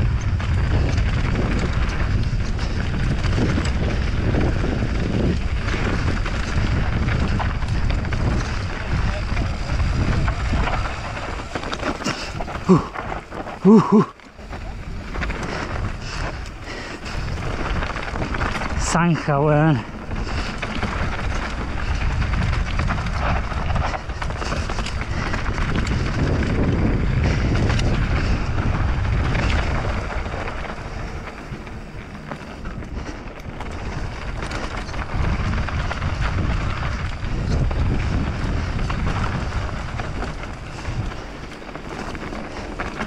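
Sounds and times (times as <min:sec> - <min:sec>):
bike rattling over bumps: 0:00.0 - 0:43.0
tyres on loose dirt: 0:00.0 - 0:43.0
wind buffeting microphone: 0:00.0 - 0:43.0.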